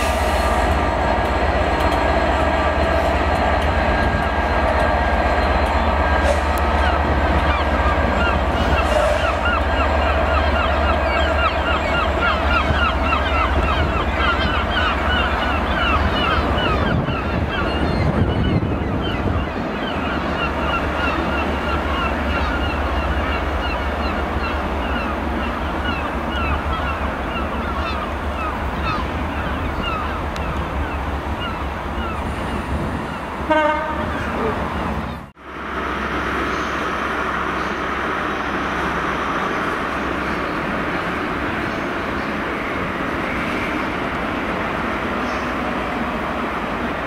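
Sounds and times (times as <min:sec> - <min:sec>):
train coaches rumbling past: 0:00.0 - 0:47.0.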